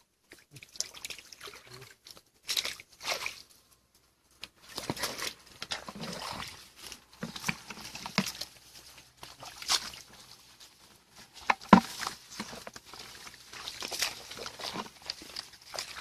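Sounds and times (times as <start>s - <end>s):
muddy water splashing: 0.0s - 3.7s, 4.4s - 16.0s.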